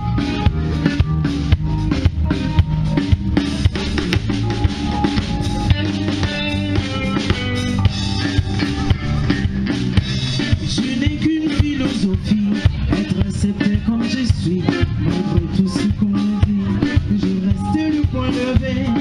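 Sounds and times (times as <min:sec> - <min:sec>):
bass line: 0:00.0 - 0:19.0
drum-kit beat: 0:00.0 - 0:19.0.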